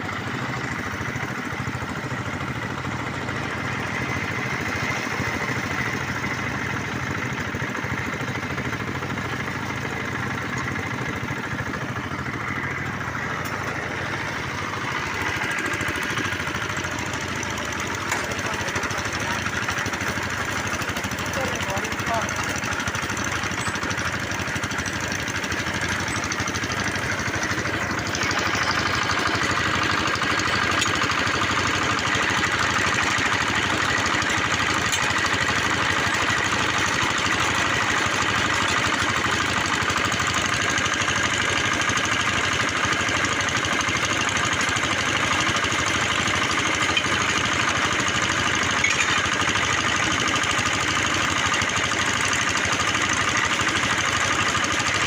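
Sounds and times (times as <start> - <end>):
drilling machine engine running: 0.0 - 55.0.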